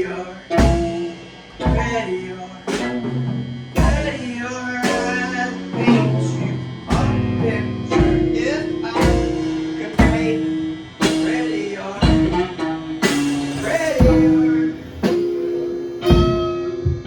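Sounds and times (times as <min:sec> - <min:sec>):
drum kit beating: 0:00.0 - 0:17.0
electric guitar: 0:00.0 - 0:17.0.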